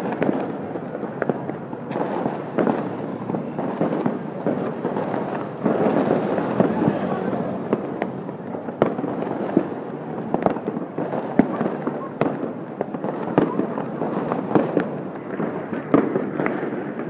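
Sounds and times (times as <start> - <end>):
crowd hubbub: 0.0 - 17.0
fireworks bangs and cracks: 0.0 - 17.0.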